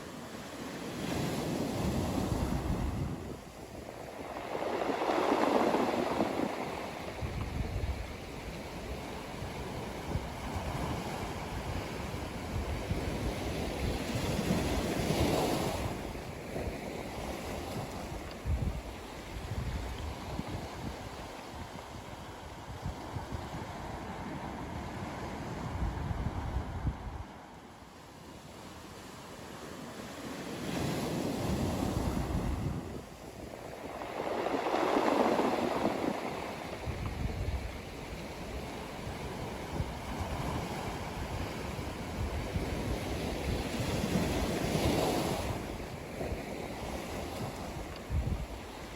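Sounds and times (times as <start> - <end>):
ocean surf on beach: 0.0 - 48.9
wind rumbling on microphone: 0.3 - 29.0, 30.0 - 48.9.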